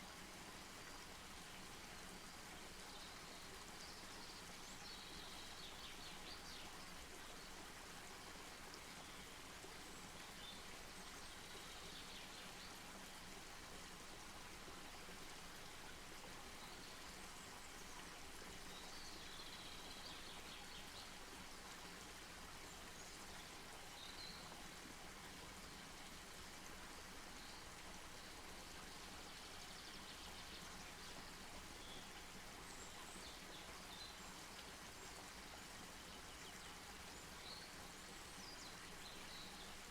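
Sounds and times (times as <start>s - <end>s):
outdoor ambient hiss: 0.0s - 39.9s.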